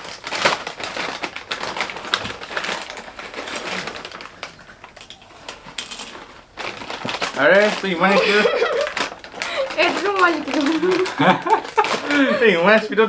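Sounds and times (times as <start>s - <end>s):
plastic snack packets crinkling: 0.0s - 13.0s.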